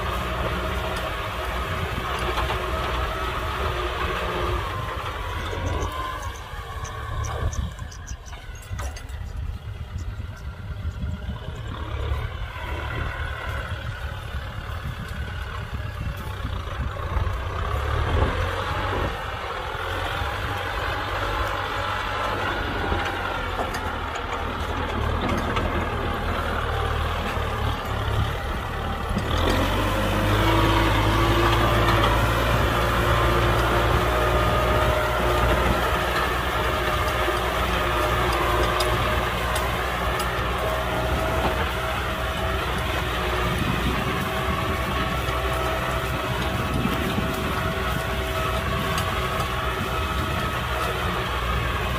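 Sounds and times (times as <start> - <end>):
tractor diesel engine rumbling: 0.0 - 51.9.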